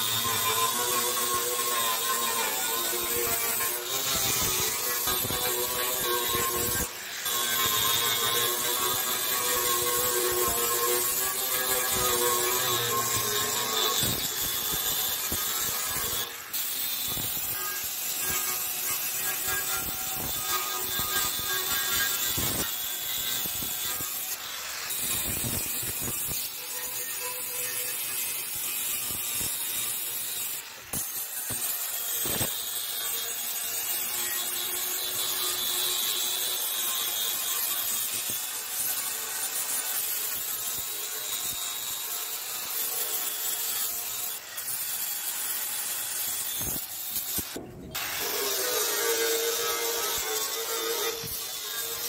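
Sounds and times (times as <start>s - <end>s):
abrasive scraping on rusty metal: 0.0s - 52.0s.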